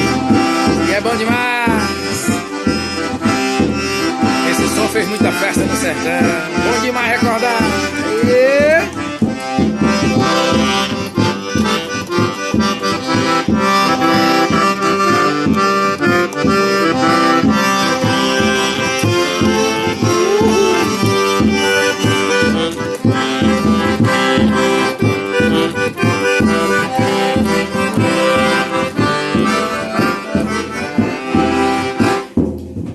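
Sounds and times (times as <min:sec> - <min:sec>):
accordion playing a tune: 0:00.0 - 0:32.6.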